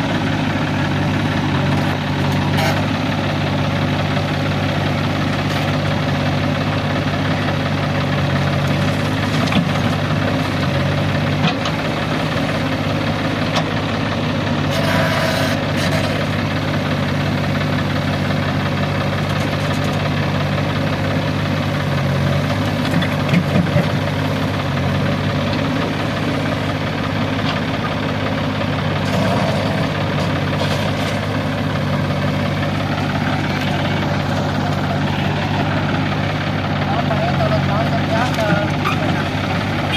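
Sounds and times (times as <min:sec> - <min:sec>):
diesel engines idling: 0:00.0 - 0:39.9.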